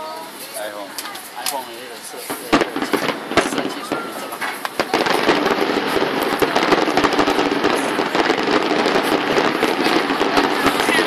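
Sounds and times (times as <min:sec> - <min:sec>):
fireworks crackling pops: 0:00.2 - 0:11.0.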